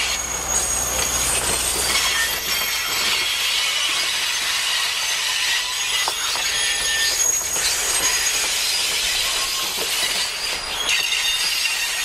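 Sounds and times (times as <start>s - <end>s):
high-pitched wheel squeals: 0.0s - 12.0s
train wheels grinding on rails: 0.0s - 12.0s.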